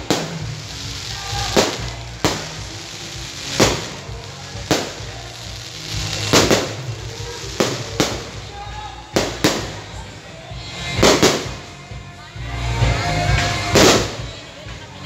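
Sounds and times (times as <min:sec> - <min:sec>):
fireworks bangs: 0:00.0 - 0:10.2, 0:10.9 - 0:11.7, 0:13.3 - 0:14.3.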